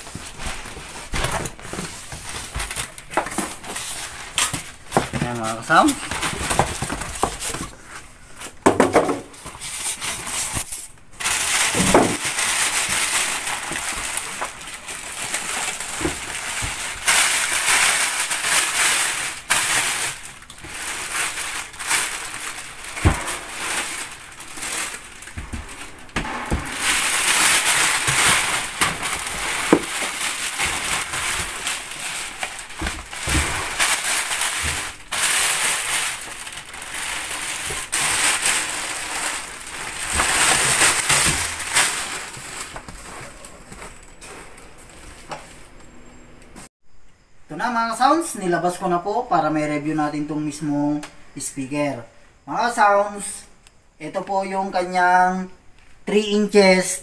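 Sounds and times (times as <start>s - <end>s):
styrofoam packing scraping: 0.0s - 45.7s
plastic bags rustling: 0.0s - 46.2s.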